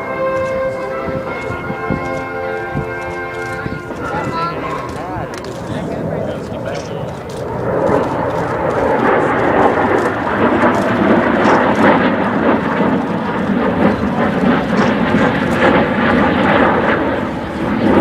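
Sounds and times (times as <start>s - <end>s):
jet plane passing overhead: 0.0s - 18.0s.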